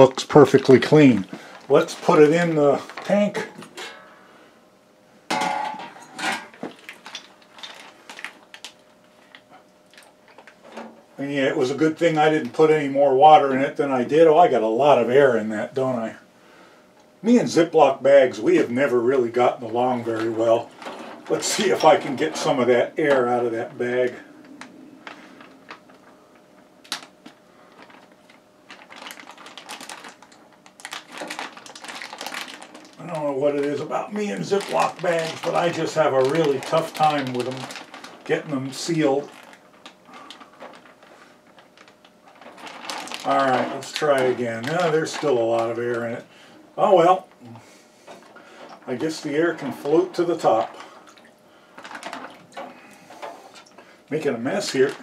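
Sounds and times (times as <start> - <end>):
clicks and plastic bag rustles: 0.0 - 4.1, 5.3 - 13.4, 18.2 - 55.0.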